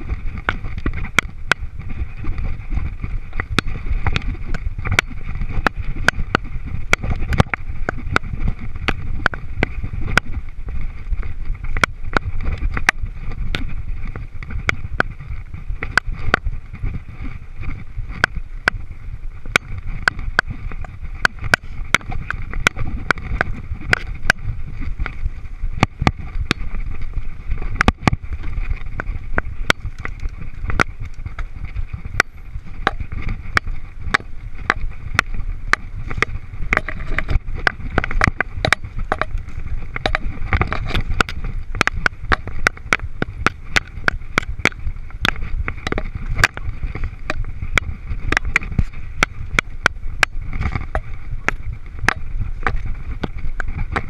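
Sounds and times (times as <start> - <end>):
bike clicks and rattles: 0.0 - 54.0
bike tyres rumbling: 0.0 - 54.0
wind: 0.0 - 54.0.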